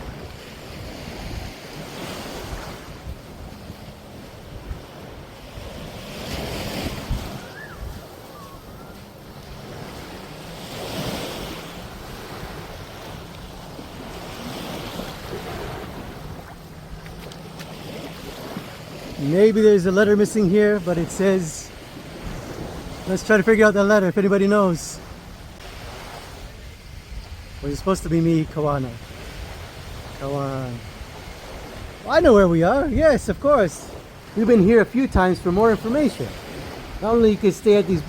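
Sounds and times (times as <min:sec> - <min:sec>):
small waves washing on sand: 0:00.0 - 0:38.0
wind rumbling on microphone: 0:00.0 - 0:38.0.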